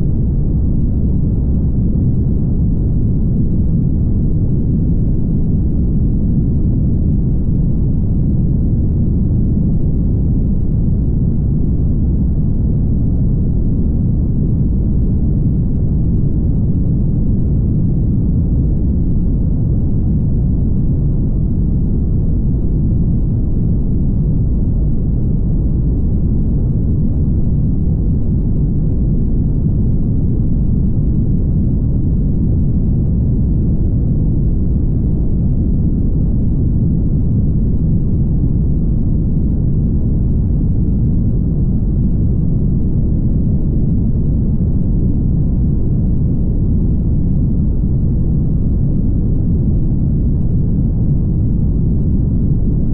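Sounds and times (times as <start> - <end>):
wind noise: 0.0 - 52.9.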